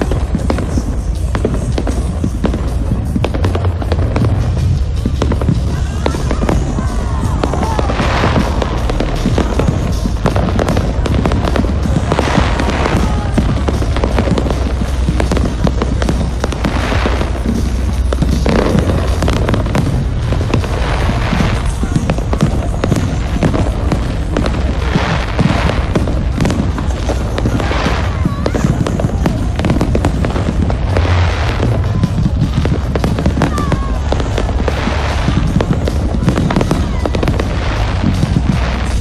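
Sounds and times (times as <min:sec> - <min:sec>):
firework booms: 0:00.0 - 0:39.0
fireworks crackling and popping: 0:00.0 - 0:39.0.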